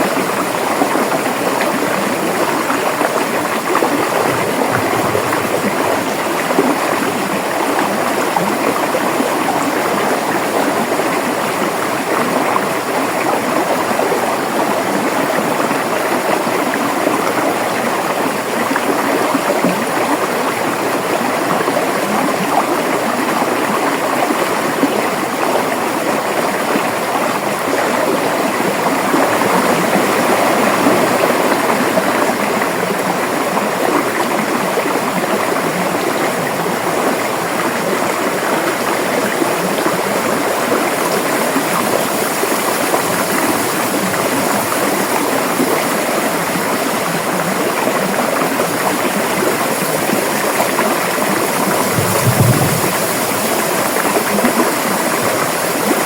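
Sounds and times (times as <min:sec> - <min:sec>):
river water gurgling over rocks: 0:00.0 - 0:56.0.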